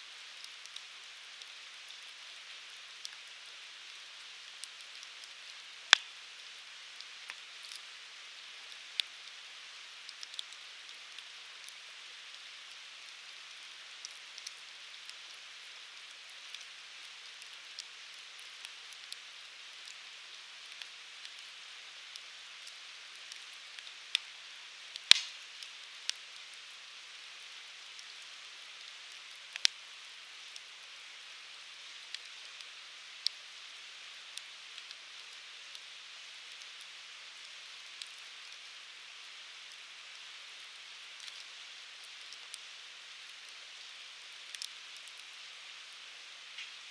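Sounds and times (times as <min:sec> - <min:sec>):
wood fire hissing and crackling: 0:00.0 - 0:46.9.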